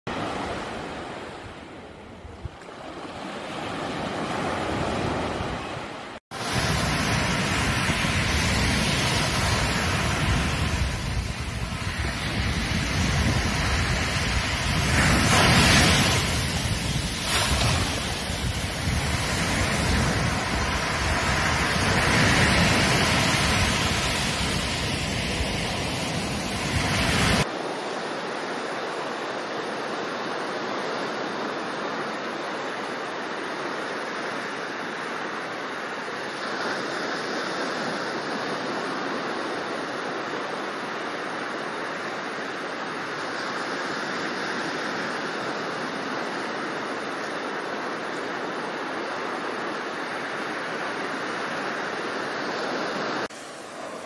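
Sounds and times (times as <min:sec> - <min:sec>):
waves breaking on beach: 0:00.1 - 0:54.0.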